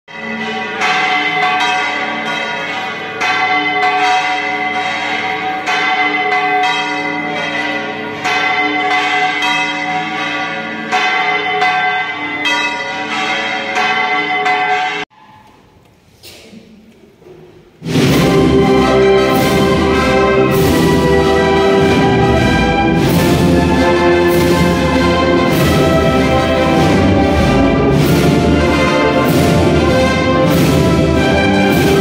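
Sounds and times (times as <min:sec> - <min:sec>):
church bells ringing: 0:00.1 - 0:15.6, 0:17.8 - 0:32.0.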